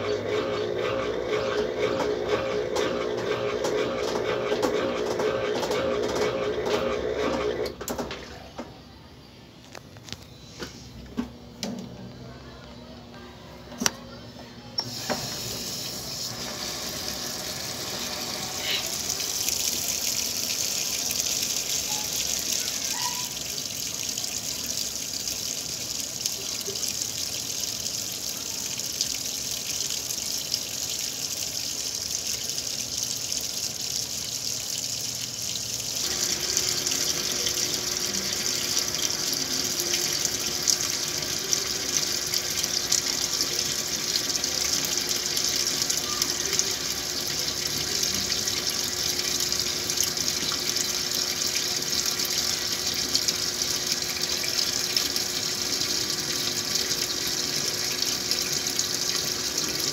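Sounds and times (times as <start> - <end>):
water pouring into washing machine: 0.0 - 8.4, 14.8 - 59.9.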